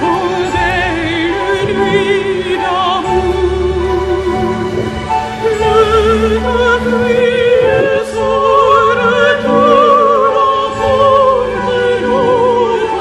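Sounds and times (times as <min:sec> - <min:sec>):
operatic voice singing: 0:00.0 - 0:13.0.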